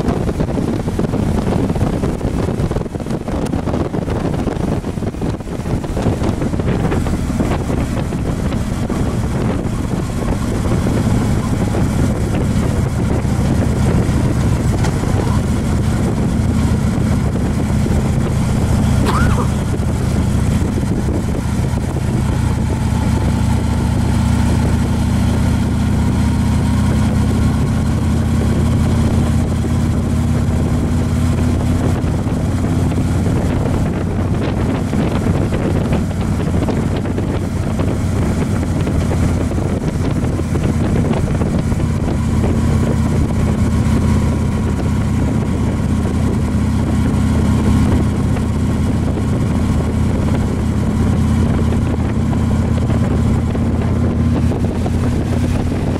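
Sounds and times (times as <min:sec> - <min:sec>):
tyre noise on road: 0:00.0 - 0:55.9
vehicle engine hum: 0:00.0 - 0:55.9
wind noise: 0:00.0 - 0:55.9.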